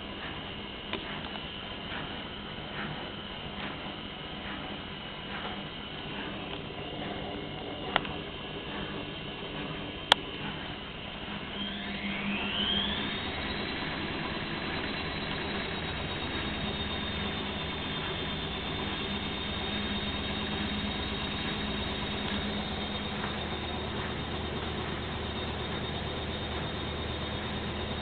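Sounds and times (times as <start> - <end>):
washing machine motor whine: 0.0 - 28.0
low hum: 5.2 - 28.0.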